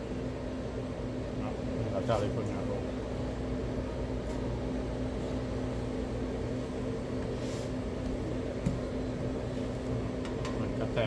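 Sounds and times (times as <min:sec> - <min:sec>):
kitchen equipment humming: 0:00.0 - 0:11.0.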